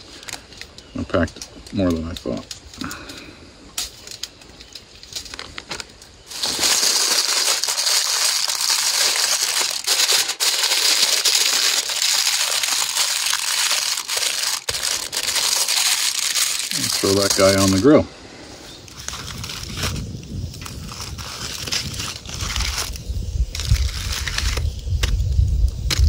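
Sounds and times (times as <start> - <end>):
aluminium foil crinkling: 0.0 - 17.9, 18.8 - 26.0
quiet foil handling: 0.0 - 17.9, 18.8 - 26.0.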